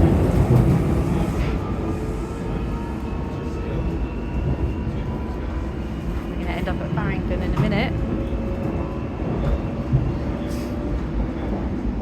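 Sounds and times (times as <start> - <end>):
train carriage rumbling on rails: 0.0 - 12.0.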